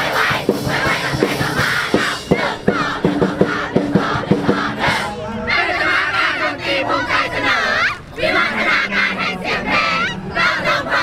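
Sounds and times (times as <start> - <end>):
crowd chanting in unison: 0.0 - 11.0.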